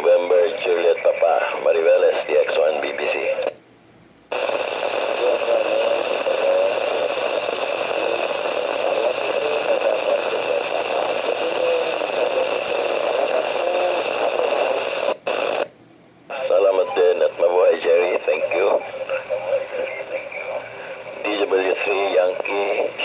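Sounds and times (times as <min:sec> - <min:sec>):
radio static hiss: 0:00.0 - 0:03.6, 0:04.3 - 0:15.7, 0:16.3 - 0:23.0.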